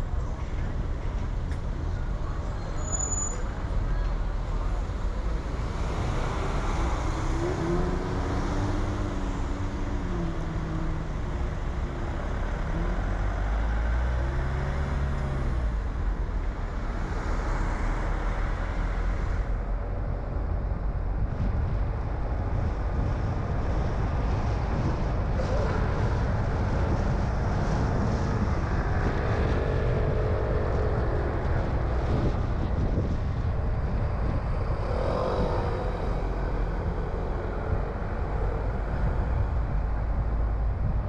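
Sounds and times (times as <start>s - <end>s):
car engine: 3.6s - 41.0s.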